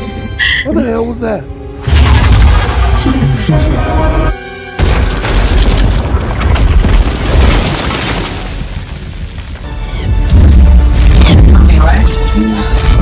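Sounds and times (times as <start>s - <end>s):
film music score: 0.0s - 6.7s, 9.2s - 13.0s.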